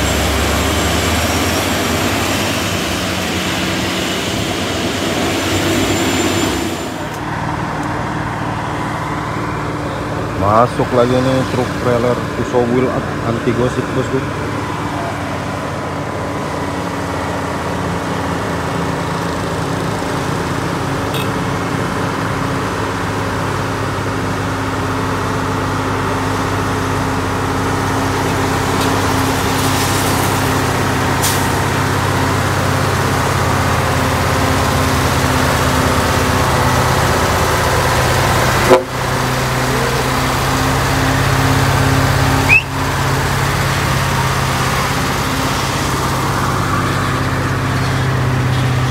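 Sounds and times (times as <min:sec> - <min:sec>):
truck diesel engine labouring: 0:00.0 - 0:48.9.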